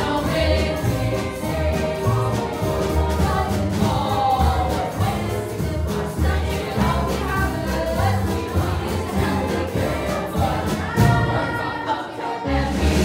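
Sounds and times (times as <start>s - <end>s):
chorus singing: 0.0s - 13.0s
instrumental accompaniment: 0.0s - 13.0s.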